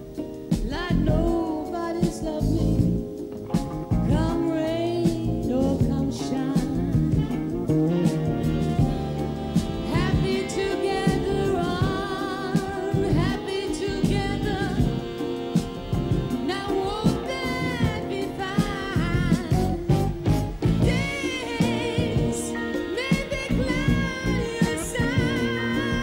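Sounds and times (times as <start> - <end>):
drums and cymbals: 0.0 - 26.0
live band playing: 0.0 - 26.0
woman singing a slow ballad: 0.2 - 7.4, 9.5 - 26.0.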